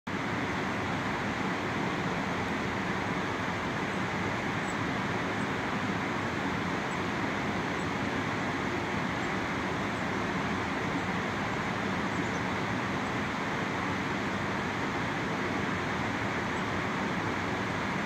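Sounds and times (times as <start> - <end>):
river water rushing over rapids: 0.1 - 18.0.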